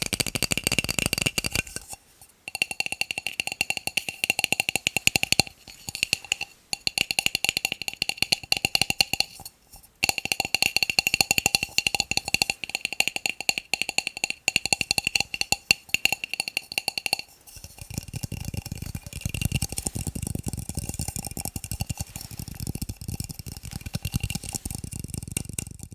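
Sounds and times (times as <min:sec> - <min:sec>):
fast tapping on plastic cups: 0:00.0 - 0:25.9.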